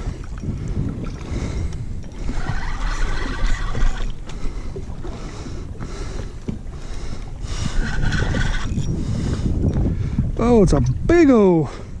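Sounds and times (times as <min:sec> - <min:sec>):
water sloshing against boat hull: 0:00.0 - 0:11.1
wind buffeting microphone: 0:00.0 - 0:12.0.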